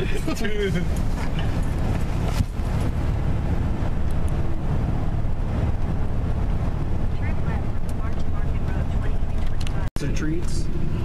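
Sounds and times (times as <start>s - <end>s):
van engine and tyre rumble: 0.0s - 11.0s.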